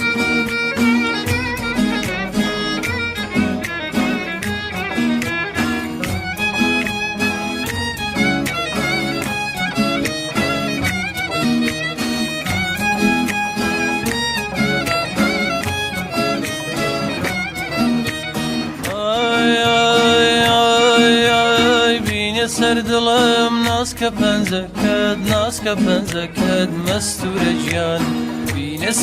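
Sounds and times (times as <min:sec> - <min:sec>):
bowed string melody: 0:00.0 - 0:28.0.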